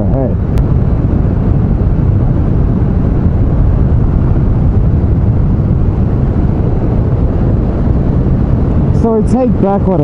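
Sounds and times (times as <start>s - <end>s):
motorcycle engine running steadily: 0.0s - 10.0s.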